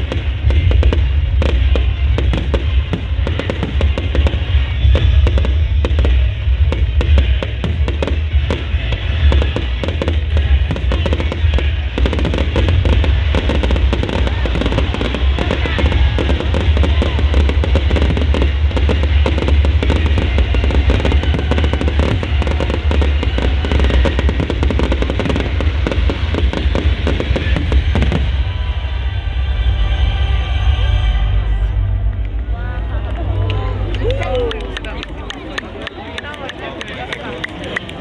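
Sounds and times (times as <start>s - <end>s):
fireworks crackling and booming: 0.0s - 38.0s
show music: 0.0s - 38.0s.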